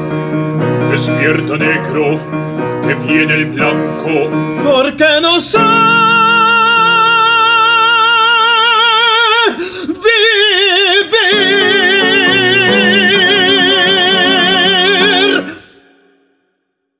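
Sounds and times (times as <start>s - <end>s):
piano accompaniment: 0.0s - 15.8s
man singing classical with vibrato: 0.9s - 16.0s.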